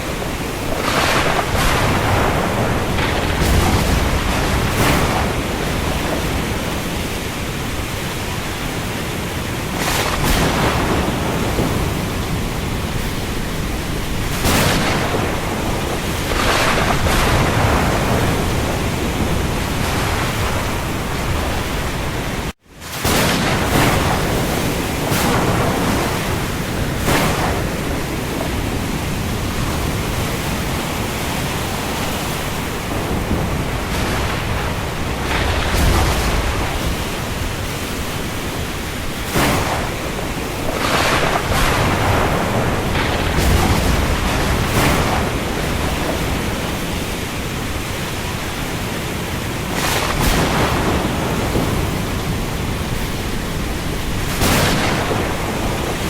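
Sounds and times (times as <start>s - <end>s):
heavy rain falling on sea: 0.0s - 56.0s.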